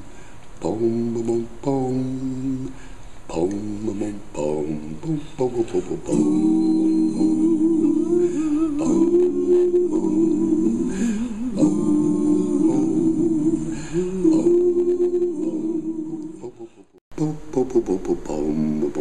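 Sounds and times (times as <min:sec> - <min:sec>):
a cappella singing: 0:00.0 - 0:19.0.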